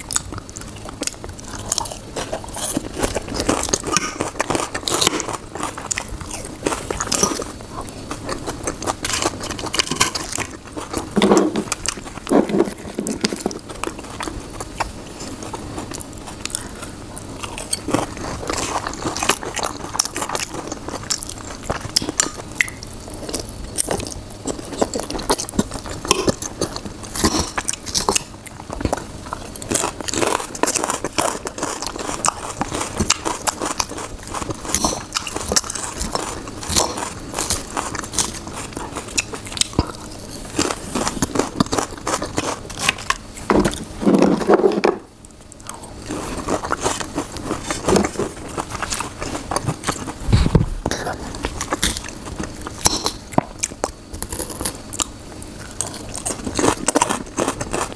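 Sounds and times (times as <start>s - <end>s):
chewing and crunching: 0.0s - 57.9s.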